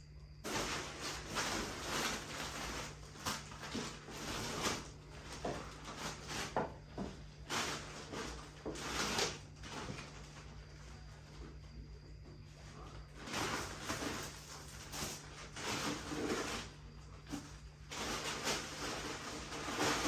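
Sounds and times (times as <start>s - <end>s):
plastic bags rustling: 0.4s - 11.4s, 12.6s - 20.0s.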